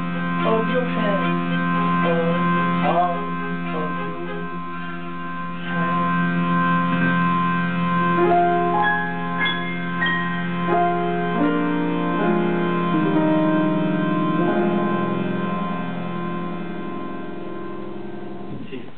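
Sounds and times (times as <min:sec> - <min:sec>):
piano chords: 0:00.0 - 0:18.9.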